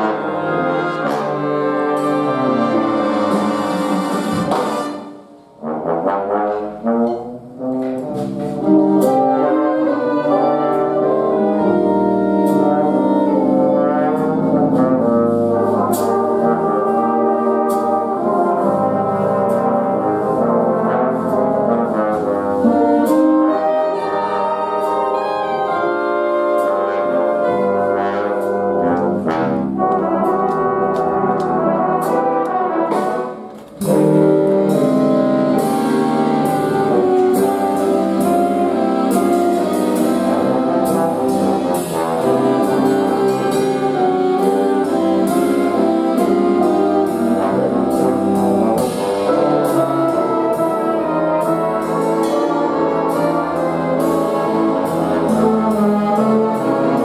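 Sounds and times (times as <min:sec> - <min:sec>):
jazz big band playing: 0:00.0 - 0:57.0
trombone solo: 0:00.0 - 0:57.0.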